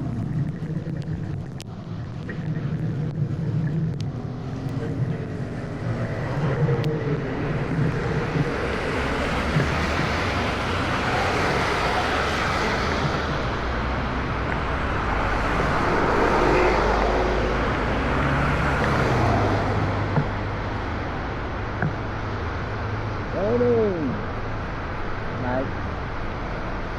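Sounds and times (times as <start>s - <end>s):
rush of road noise: 0.0s - 26.9s
vehicle engines humming: 0.0s - 26.9s.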